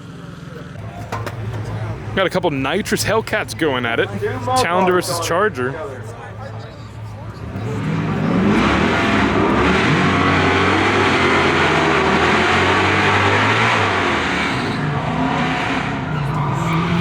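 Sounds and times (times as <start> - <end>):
car engines at full throttle: 0.0 - 17.0.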